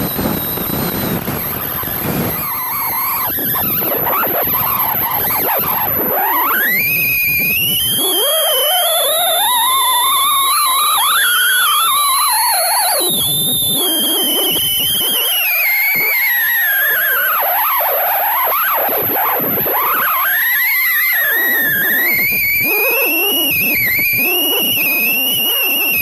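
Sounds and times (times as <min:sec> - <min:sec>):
loud gliding whistling tone: 0:00.0 - 0:26.0
very high whine: 0:00.0 - 0:26.0.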